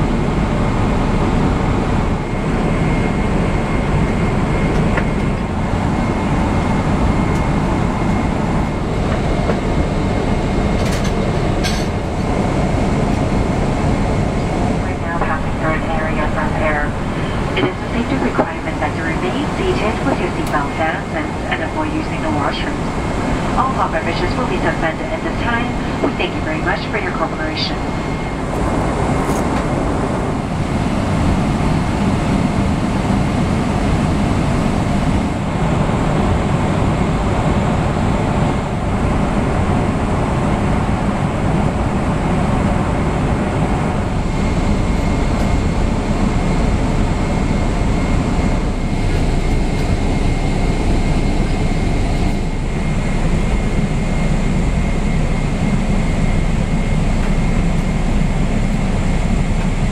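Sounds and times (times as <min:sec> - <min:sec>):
airplane cabin engine roar: 0:00.0 - 0:59.9
thin steady whine: 0:00.0 - 0:59.9.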